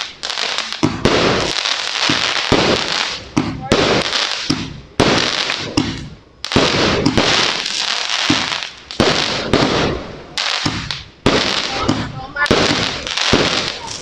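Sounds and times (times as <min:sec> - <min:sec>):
firework shots banging: 0:00.0 - 0:14.0
firework stars crackling: 0:00.0 - 0:14.0.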